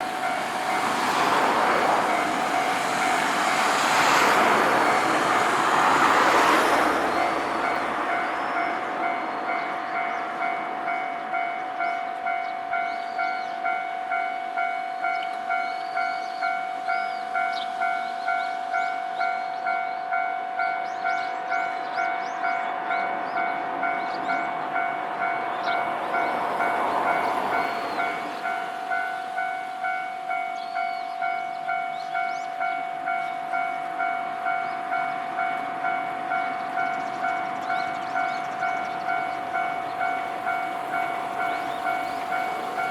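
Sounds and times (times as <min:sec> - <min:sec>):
train rushing past: 0:00.0 - 0:13.8, 0:14.6 - 0:42.9.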